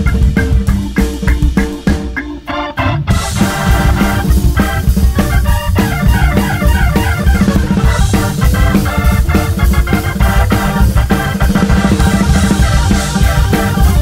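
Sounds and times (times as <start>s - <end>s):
drum kit groove: 0.0s - 14.0s
organ playing: 0.0s - 14.0s.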